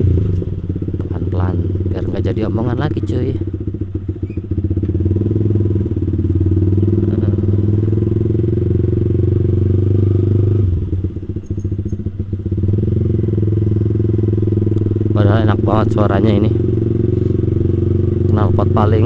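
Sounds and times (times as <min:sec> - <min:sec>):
motorcycle engine exhaust note: 0:00.0 - 0:19.0.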